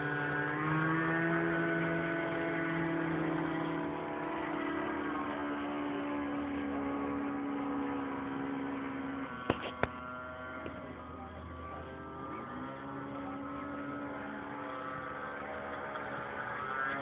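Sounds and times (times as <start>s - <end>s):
model airplane motor droning: 0.0s - 17.0s.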